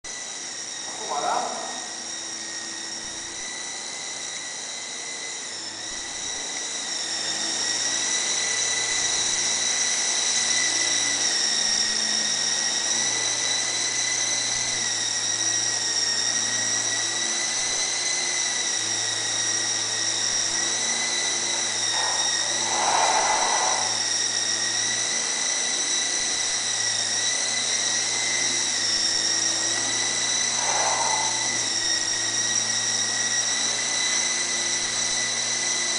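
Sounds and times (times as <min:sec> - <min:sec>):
toy helicopter rotors whining: 0:00.0 - 0:35.9.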